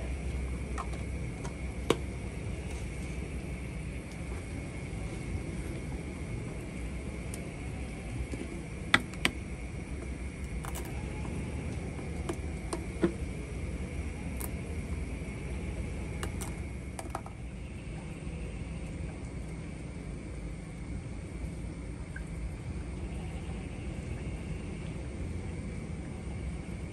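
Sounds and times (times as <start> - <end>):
low rumble and hiss: 0.0 - 26.9.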